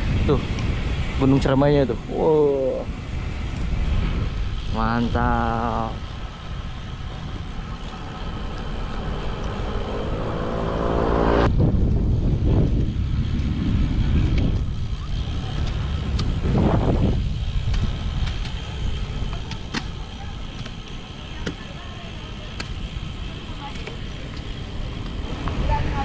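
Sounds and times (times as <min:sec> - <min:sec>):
vehicle engine hum: 0:00.0 - 0:26.0
vehicles passing: 0:00.0 - 0:26.0
wind rumbling on microphone: 0:00.0 - 0:26.0.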